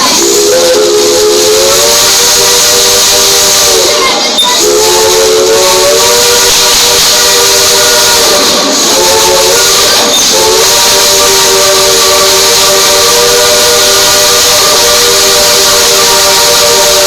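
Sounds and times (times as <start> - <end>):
heavy steam hiss: 0.0 - 17.0
steam locomotive whistle chord: 0.0 - 17.0.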